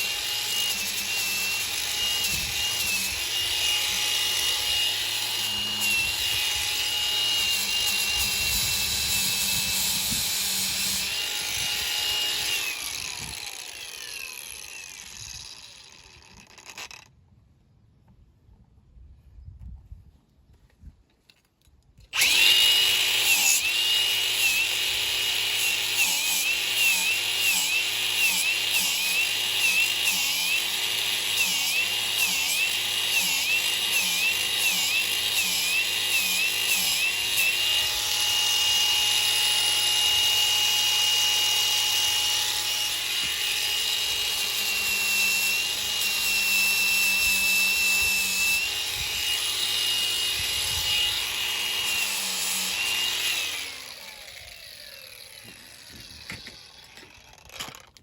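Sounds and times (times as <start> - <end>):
electric grinder grinding rubber: 0.0 - 17.1, 22.2 - 58.0.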